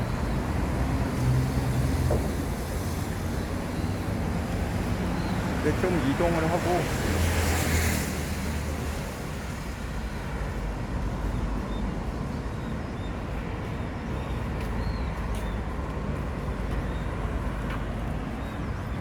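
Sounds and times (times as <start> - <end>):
street traffic passing: 0.0 - 19.0.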